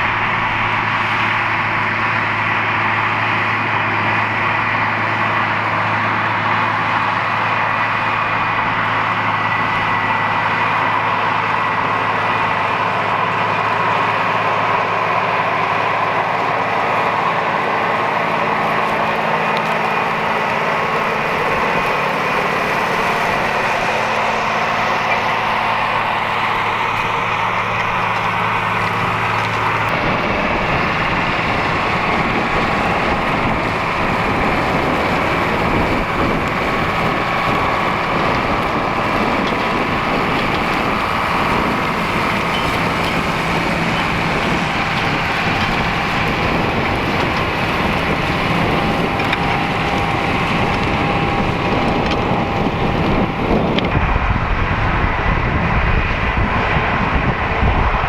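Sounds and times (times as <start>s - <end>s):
diesel tractor engine under load: 0.0s - 58.0s.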